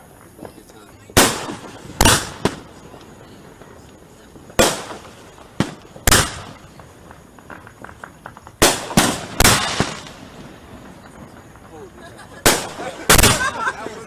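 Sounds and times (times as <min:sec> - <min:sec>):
firework crackles: 0:00.0 - 0:14.0
fireworks booming: 0:00.0 - 0:14.0.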